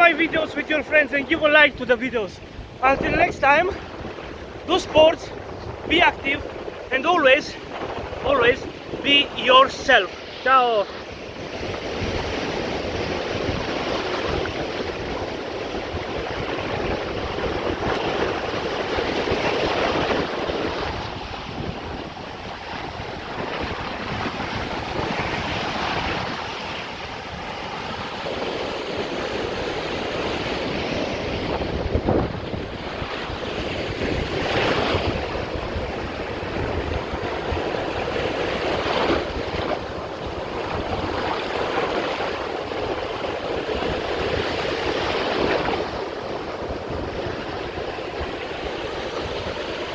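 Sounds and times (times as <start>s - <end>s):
waves breaking on shore: 0.0s - 49.9s
wind on microphone: 0.0s - 49.9s.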